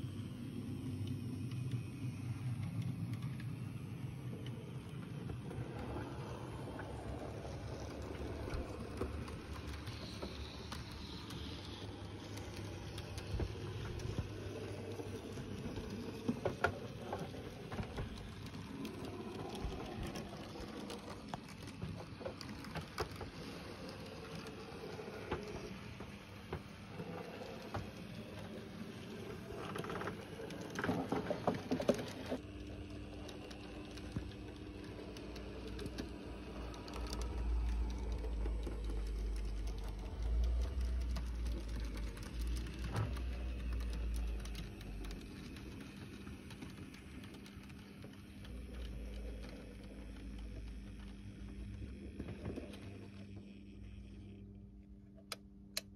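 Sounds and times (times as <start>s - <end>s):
model train motor hum: 0.0s - 54.5s
wheels clicking over track: 2.9s - 53.0s.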